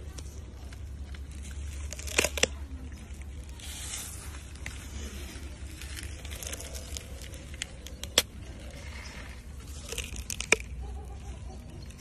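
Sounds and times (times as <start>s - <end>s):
tortoise crunching food: 0.0s - 12.0s.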